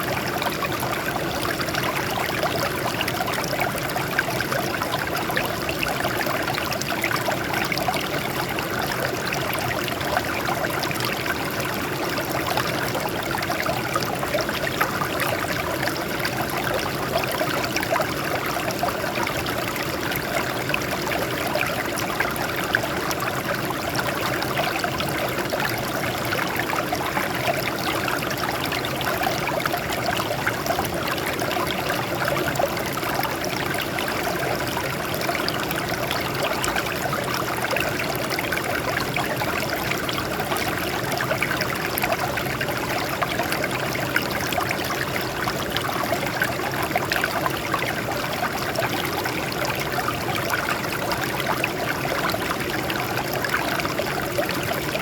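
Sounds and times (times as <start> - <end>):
water flowing over rocks: 0.0 - 55.0.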